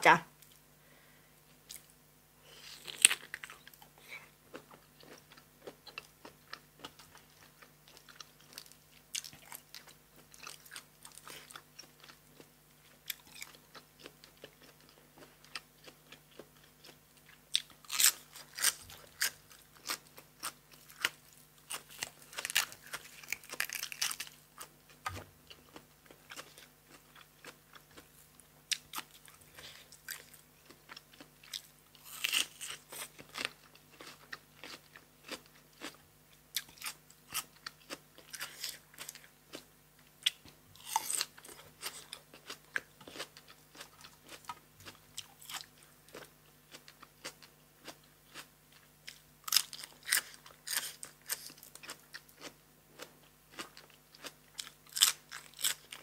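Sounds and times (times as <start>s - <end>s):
crunchy chewing: 2.5s - 56.0s.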